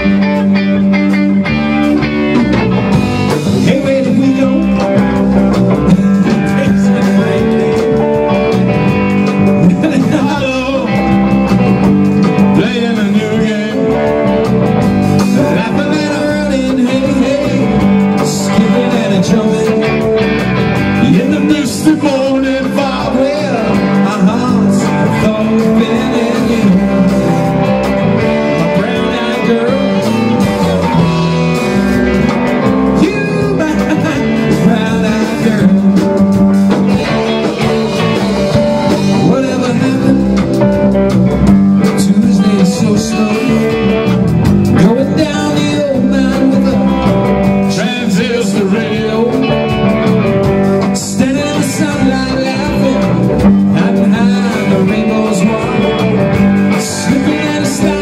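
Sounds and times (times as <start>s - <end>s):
drum kit with cymbals: 0.0s - 58.0s
electric guitars: 0.0s - 58.0s.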